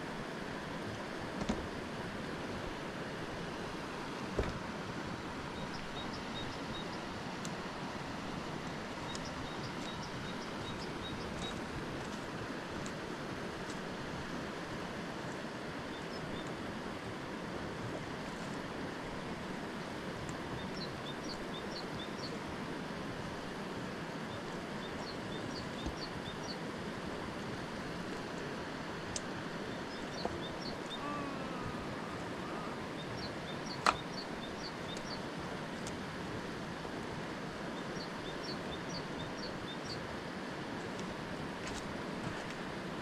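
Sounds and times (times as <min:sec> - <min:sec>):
rushing background noise: 0:00.0 - 0:43.0.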